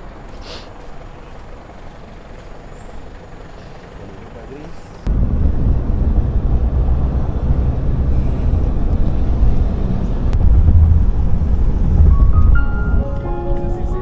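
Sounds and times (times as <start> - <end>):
vehicle rumbling in motion: 0.0 - 14.0.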